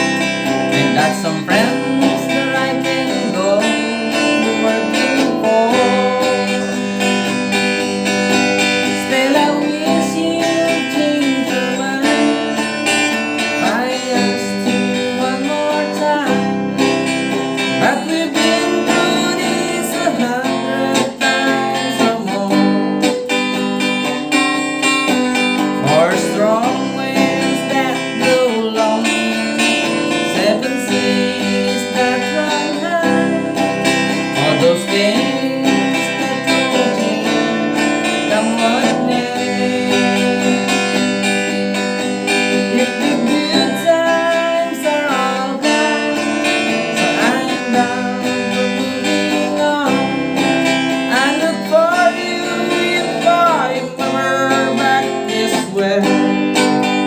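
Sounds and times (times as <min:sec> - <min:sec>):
acoustic guitar strumming: 0:00.0 - 0:57.0
sliding guitar melody notes: 0:00.0 - 0:57.0.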